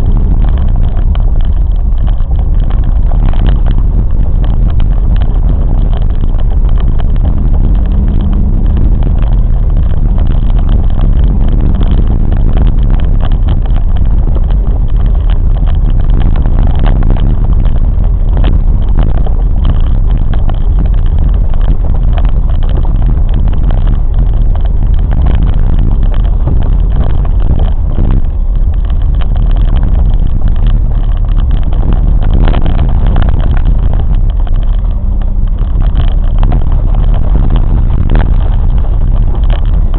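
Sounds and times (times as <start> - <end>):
train rumbling along track: 0.0 - 39.9
clicks and knocks from running gear: 0.2 - 39.9.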